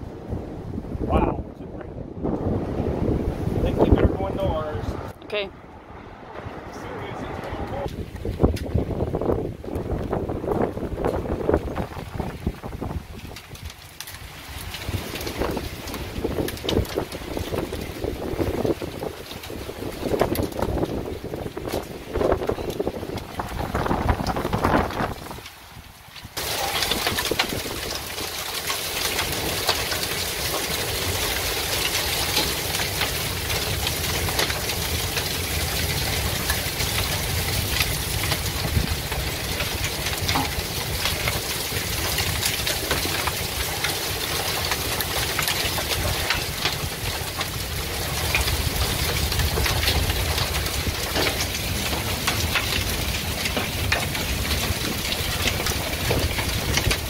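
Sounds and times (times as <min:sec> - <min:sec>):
wind buffeting microphone: 0:00.0 - 0:57.0
rain hiss: 0:02.2 - 0:57.0
hailstones clattering: 0:07.8 - 0:57.0.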